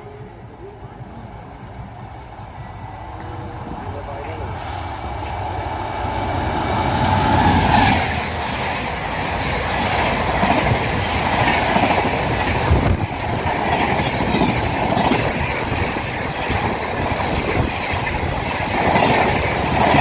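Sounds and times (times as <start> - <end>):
passenger train rumbling past: 0.0 - 20.0.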